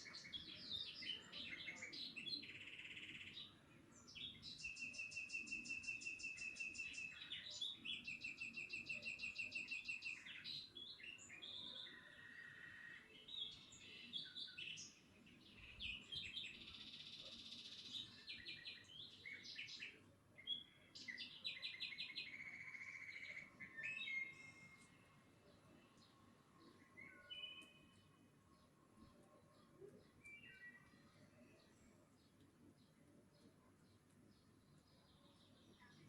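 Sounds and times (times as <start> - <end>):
birds singing and calling: 0.0 - 36.0.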